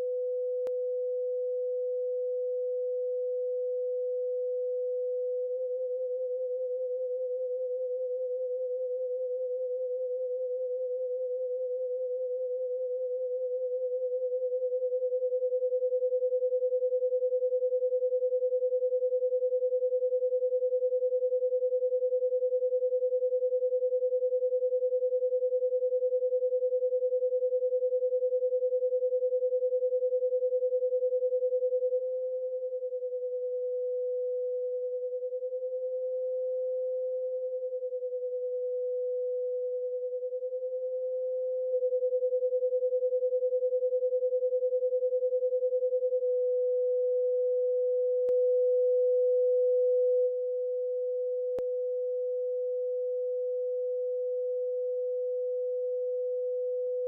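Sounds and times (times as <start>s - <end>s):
pulsing sine tone: 0.0s - 57.0s.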